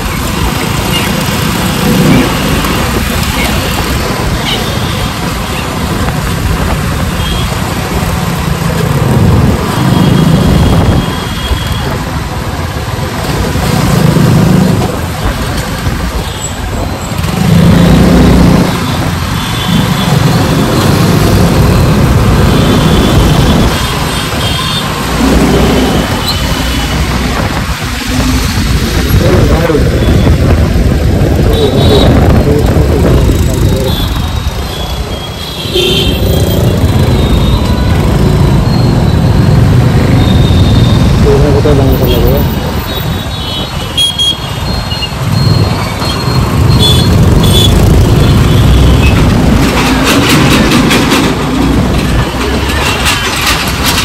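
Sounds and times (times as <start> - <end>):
road vehicle rumble: 0.0 - 54.0.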